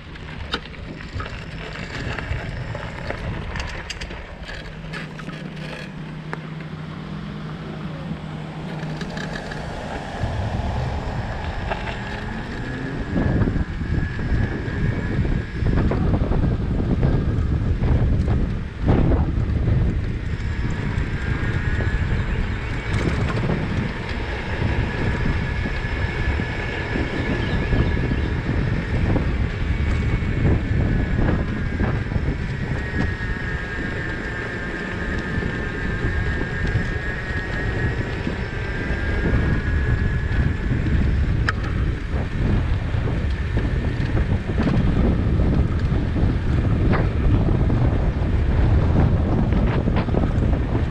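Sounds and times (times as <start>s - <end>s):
bicycle tyre and road noise: 0.0s - 50.9s
wind buffeting microphone: 0.0s - 50.9s
faint high whine: 0.9s - 50.8s.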